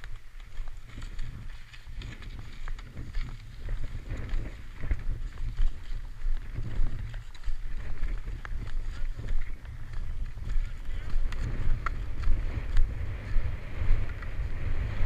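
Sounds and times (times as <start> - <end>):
wind buffeting microphone: 0.0 - 15.0
skis scraping over snow: 0.1 - 15.0.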